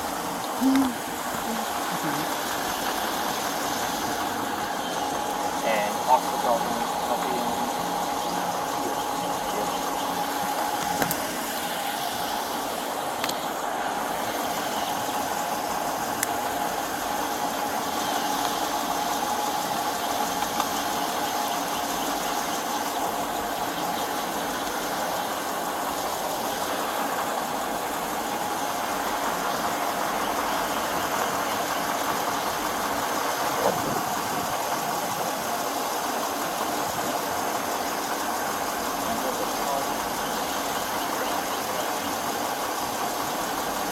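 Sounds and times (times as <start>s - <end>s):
vehicle engine idling: 0.0s - 43.9s.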